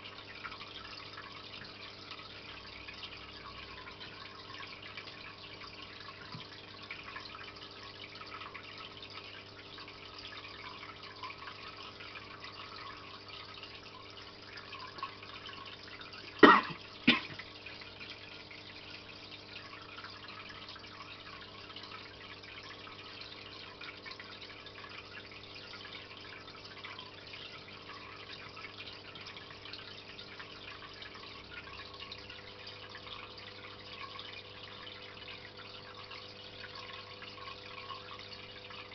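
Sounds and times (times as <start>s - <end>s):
aquarium filter trickling: 0.0s - 38.9s
low steady hum: 0.0s - 38.9s.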